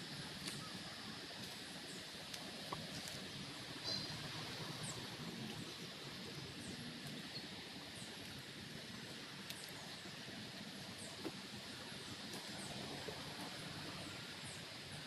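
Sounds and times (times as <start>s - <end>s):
steady background hum and hiss: 0.0s - 15.0s
small birds chirping: 0.4s - 12.8s.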